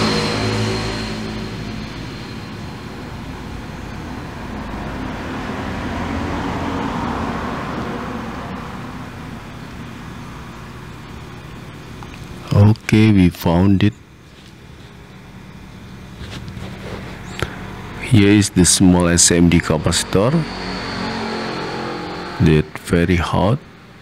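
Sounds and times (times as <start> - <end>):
vehicle engine passing: 0.0 - 13.0, 14.9 - 24.0
road traffic noise: 0.0 - 24.0.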